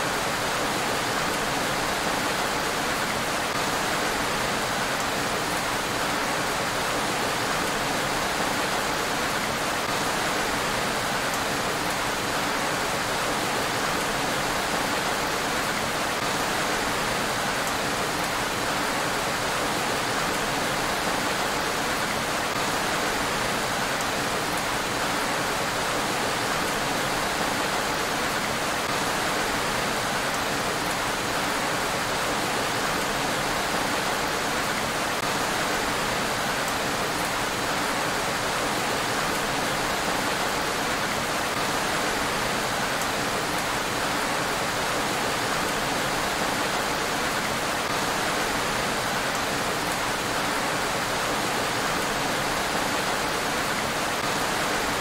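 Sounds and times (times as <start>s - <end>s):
rain falling on a road: 0.0s - 55.0s.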